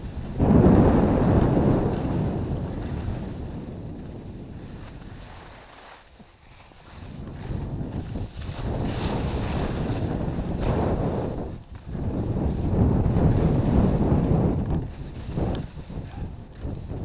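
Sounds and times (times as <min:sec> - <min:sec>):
skis hissing over snow: 0:00.0 - 0:17.0
wind rumbling on microphone: 0:00.0 - 0:17.0.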